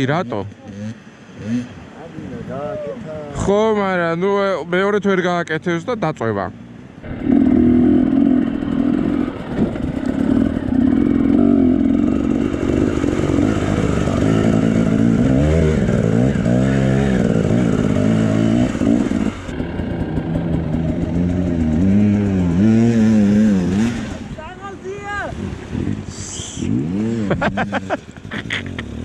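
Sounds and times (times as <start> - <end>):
motorcycle engine revving: 0.0 - 2.1, 7.0 - 24.5, 25.2 - 29.0
second motorcycle revving: 0.0 - 2.1, 7.0 - 29.0.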